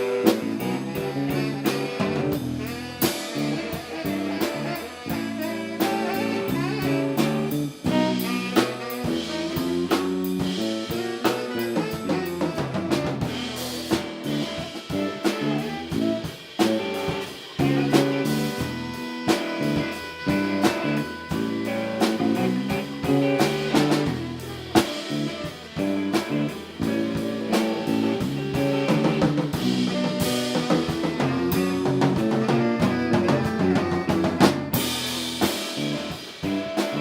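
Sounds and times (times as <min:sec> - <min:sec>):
drum kit beating: 0:00.0 - 0:37.0
live jazz band playing: 0:00.0 - 0:37.0
saxophone lines: 0:00.0 - 0:37.0.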